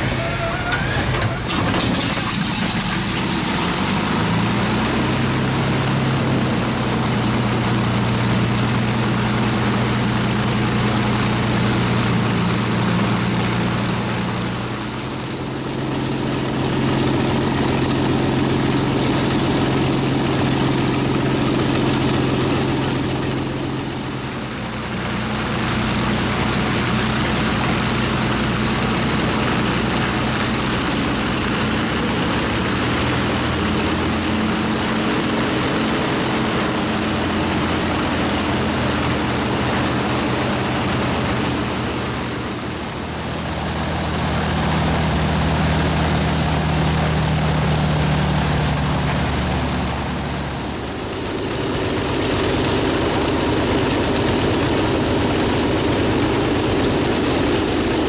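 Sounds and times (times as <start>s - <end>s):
piston aircraft engines droning: 0.0s - 58.0s.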